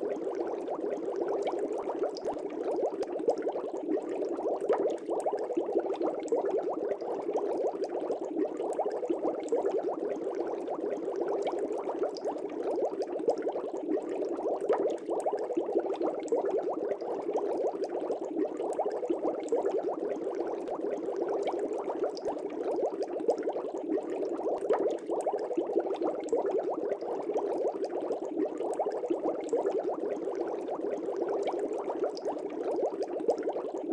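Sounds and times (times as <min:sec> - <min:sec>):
fish tank air bubbles: 0:00.0 - 0:33.9.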